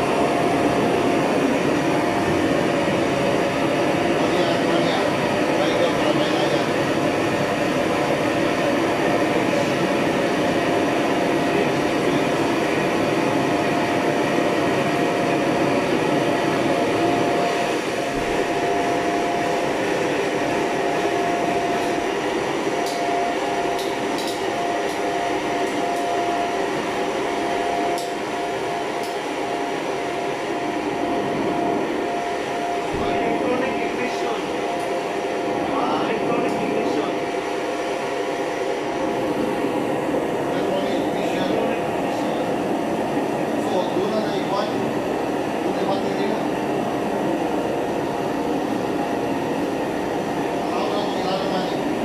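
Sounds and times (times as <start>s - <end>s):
gas burners rushing: 0.0s - 52.0s.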